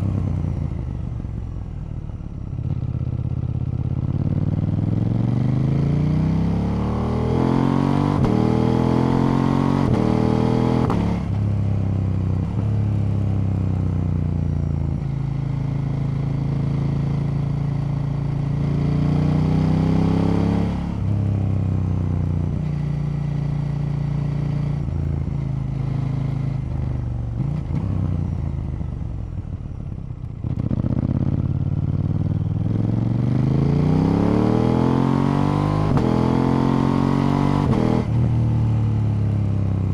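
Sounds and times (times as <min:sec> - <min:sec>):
motorcycle engine accelerating: 0:02.4 - 0:39.9.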